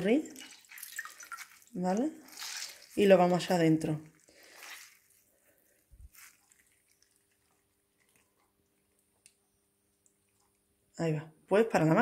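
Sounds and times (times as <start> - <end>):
water trickling and dripping: 0.0 - 10.9.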